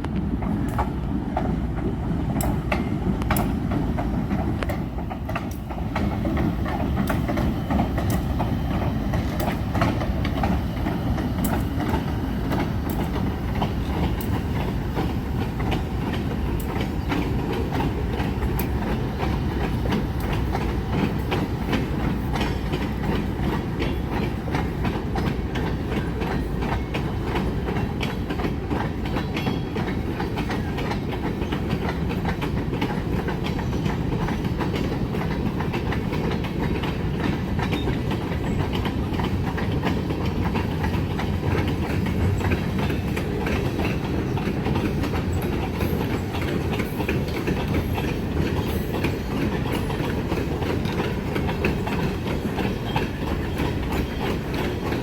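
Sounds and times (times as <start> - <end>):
freight train rumbling: 0.0 - 55.0
wheels clicking over rail joints: 0.0 - 55.0.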